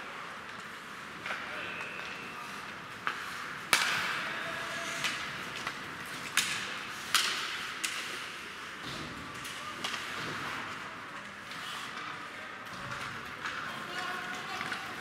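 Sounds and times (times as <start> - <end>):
hockey sticks clacking on puck: 0.3 - 15.0.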